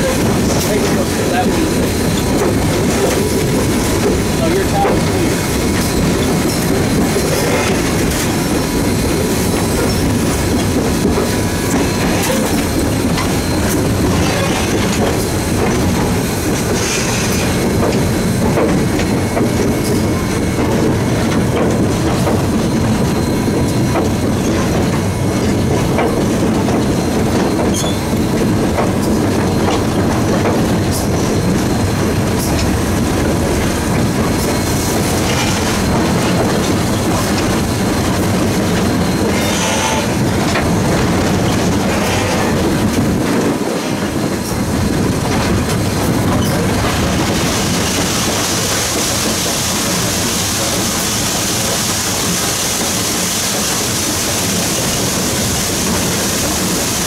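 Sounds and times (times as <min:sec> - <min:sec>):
steam locomotive clattering on rails: 0:00.0 - 0:57.0.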